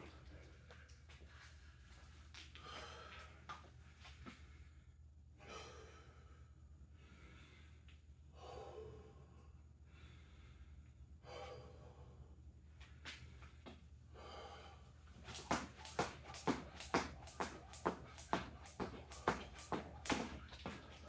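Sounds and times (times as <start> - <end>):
man breathing heavily: 1.3 - 21.0.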